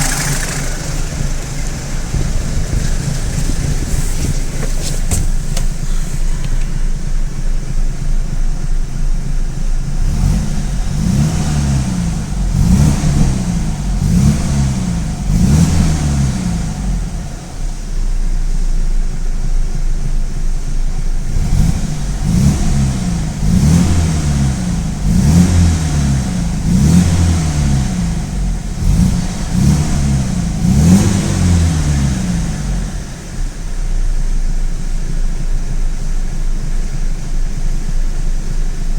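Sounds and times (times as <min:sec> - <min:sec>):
car engine revving: 0:00.0 - 0:38.9
engine rattling and misfiring: 0:00.0 - 0:38.9.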